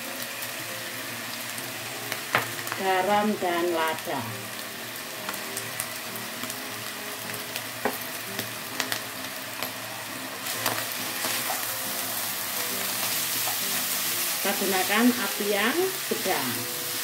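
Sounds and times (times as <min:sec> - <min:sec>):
noodles sizzling in a wok: 0:00.0 - 0:17.0.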